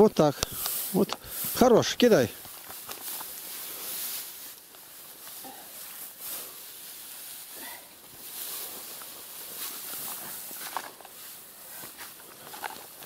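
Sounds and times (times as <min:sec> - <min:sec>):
dry hay rustling: 0:00.0 - 0:13.0.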